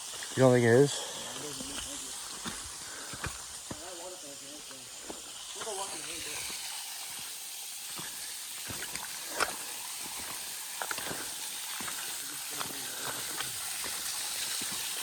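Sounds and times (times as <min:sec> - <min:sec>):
rushing water hiss: 0:00.0 - 0:15.0.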